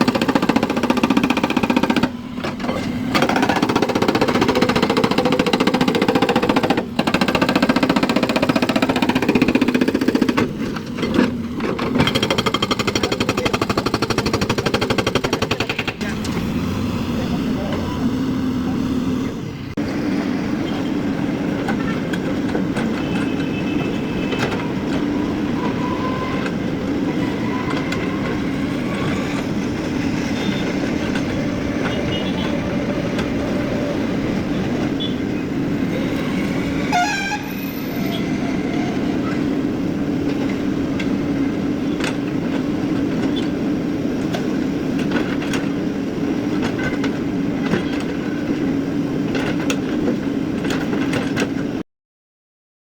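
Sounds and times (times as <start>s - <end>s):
excavator diesel engine running: 0.0s - 51.6s.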